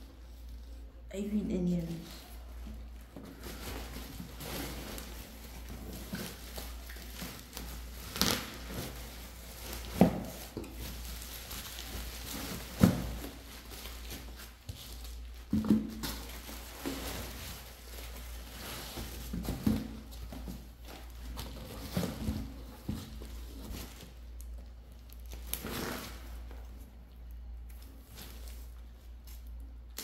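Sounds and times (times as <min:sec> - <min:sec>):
bubble wrap crinkling: 0:00.0 - 0:30.0.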